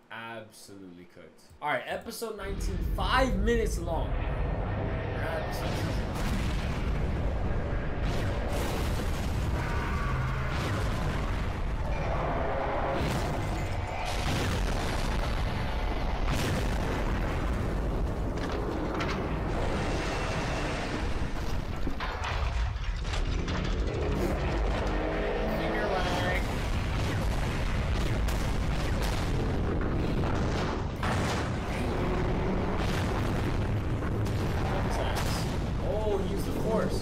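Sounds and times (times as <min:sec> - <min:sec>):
continuous low rumble: 0:02.6 - 0:37.0
explosions and booms: 0:02.6 - 0:37.0.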